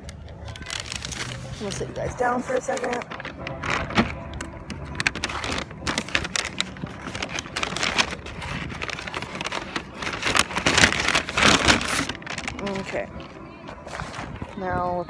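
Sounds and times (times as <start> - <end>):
paper bag rustling: 0.0 - 15.0.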